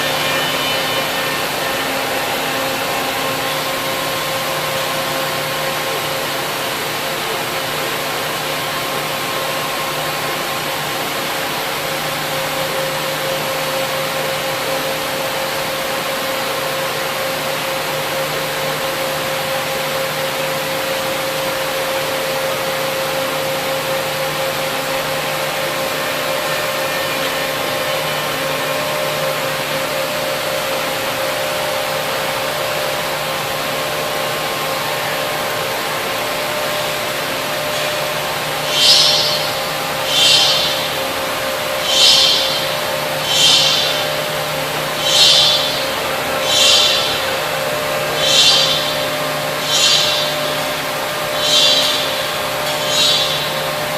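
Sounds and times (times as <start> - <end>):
machine hiss and whine: 0.0 - 53.9.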